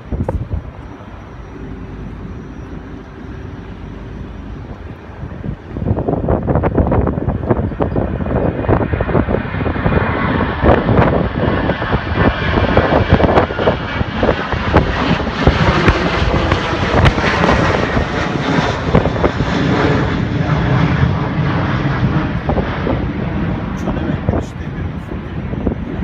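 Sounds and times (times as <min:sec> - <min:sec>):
aircraft engine noise: 0:00.0 - 0:26.0
wind buffeting microphone: 0:00.0 - 0:26.0.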